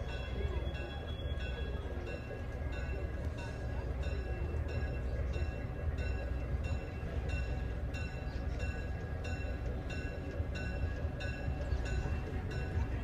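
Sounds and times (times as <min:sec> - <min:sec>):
locomotive bell ringing: 0:00.0 - 0:13.0
locomotive engine rumbling: 0:00.0 - 0:13.0.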